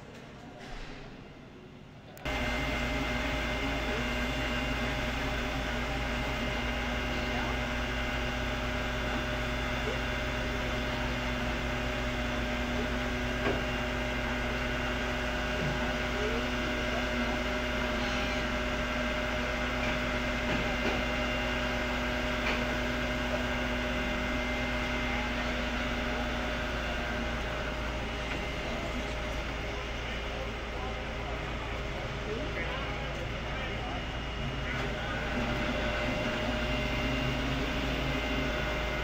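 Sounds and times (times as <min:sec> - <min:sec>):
hydraulic pump hum: 0:02.2 - 0:39.0
truck engine rumble: 0:02.2 - 0:39.0.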